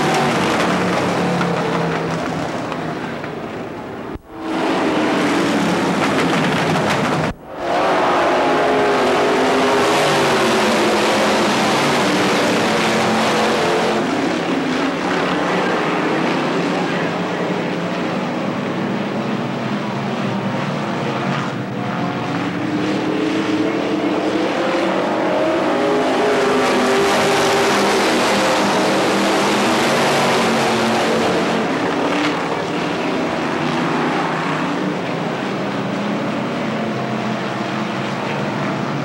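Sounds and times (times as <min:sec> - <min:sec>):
stock car engines racing: 0:00.0 - 0:39.0.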